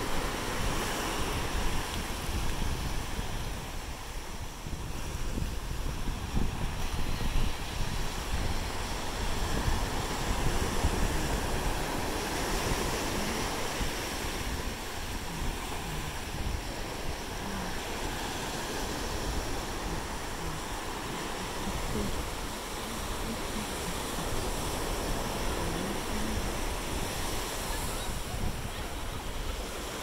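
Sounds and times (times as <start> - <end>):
surf rushing: 0.0 - 30.0
wind buffeting microphone: 0.0 - 30.0.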